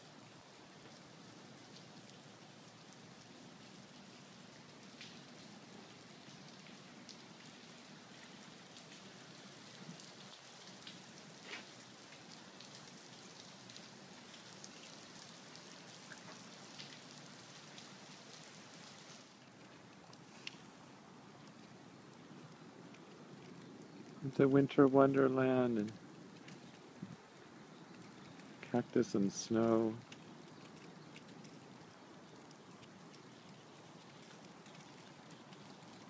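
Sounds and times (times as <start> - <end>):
rain and wet snow pattering: 0.0 - 36.0
sharp drips: 0.8 - 36.0.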